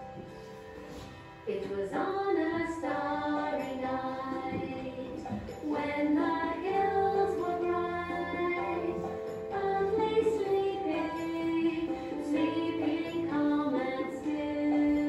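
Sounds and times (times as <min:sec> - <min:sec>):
gentle instrumental music: 0:00.0 - 0:15.0
person singing: 0:01.5 - 0:15.0.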